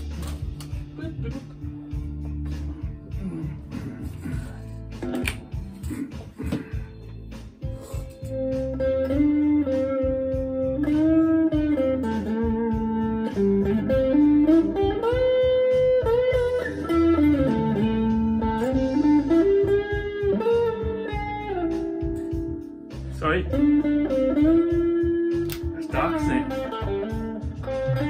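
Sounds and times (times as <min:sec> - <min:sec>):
backing track: 0:00.0 - 0:28.0
electric guitar blues lead: 0:00.0 - 0:28.0.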